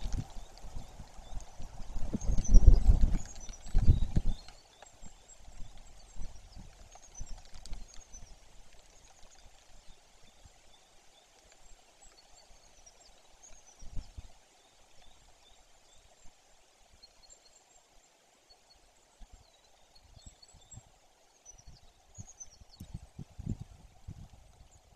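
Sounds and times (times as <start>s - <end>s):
faint steady hiss: 0.0s - 24.9s
songbirds chirping: 0.0s - 24.9s.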